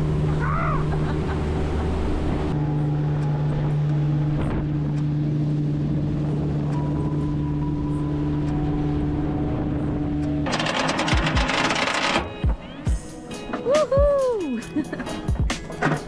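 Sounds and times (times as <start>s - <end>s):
outboard motor droning: 0.0s - 13.8s.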